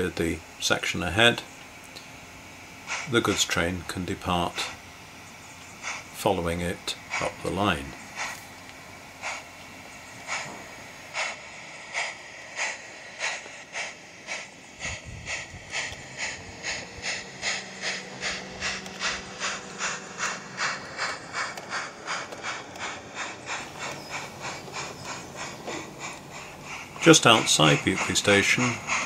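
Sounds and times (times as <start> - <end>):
model steam locomotive chuffing: 0.0 - 29.0.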